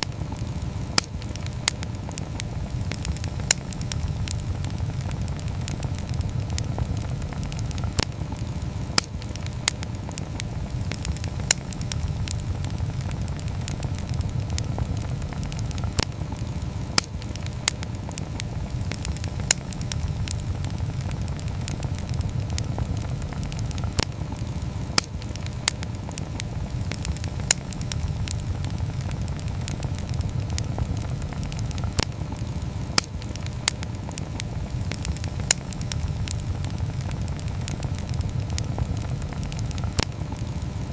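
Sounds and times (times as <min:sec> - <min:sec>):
fire crackling and popping: 0:00.0 - 0:40.9
low rush of flame: 0:00.0 - 0:40.9.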